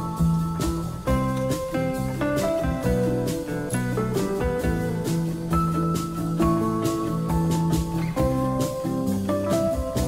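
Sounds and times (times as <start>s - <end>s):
plucked melody over steady beat: 0.0s - 10.0s.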